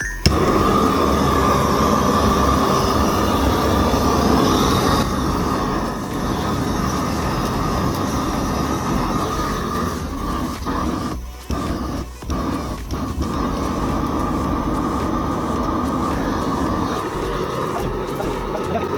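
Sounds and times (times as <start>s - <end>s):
gas torch roaring: 0.2s - 18.9s.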